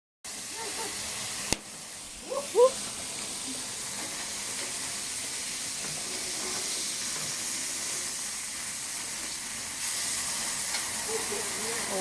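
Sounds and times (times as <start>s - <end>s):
food sizzling over campfire: 0.3s - 12.0s.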